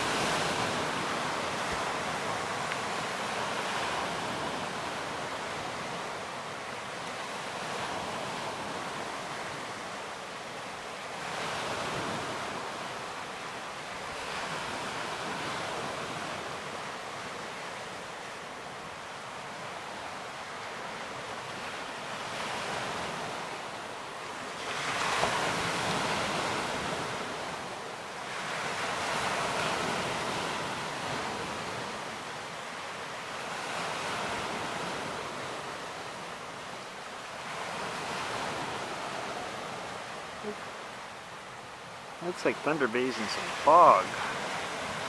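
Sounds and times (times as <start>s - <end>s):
waves breaking on shore: 0.0s - 45.0s.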